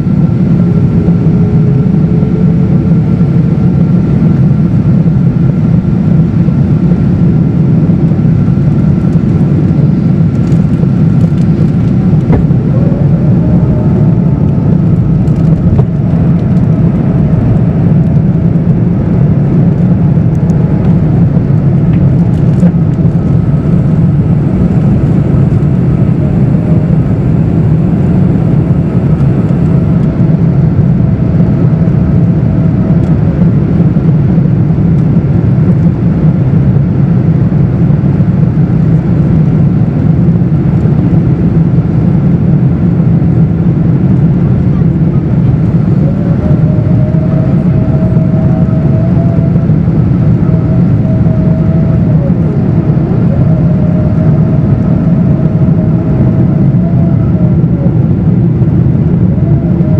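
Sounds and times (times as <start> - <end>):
airplane cabin engine rush: 0.0 - 59.9.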